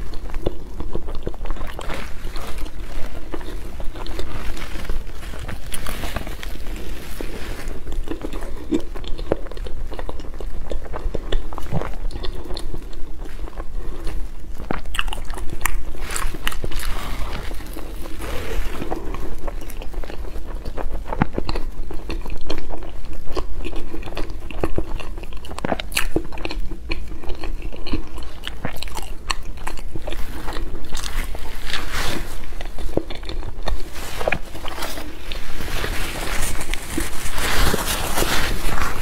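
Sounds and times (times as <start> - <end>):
chewing and lip-smacking: 0.0 - 39.0.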